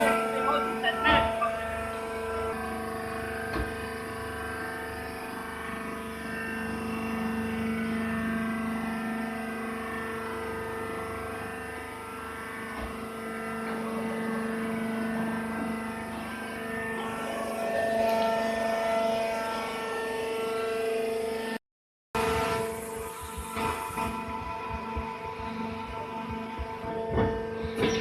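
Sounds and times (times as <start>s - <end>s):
hydraulic press mechanical drone: 0.0s - 21.6s, 22.2s - 28.0s.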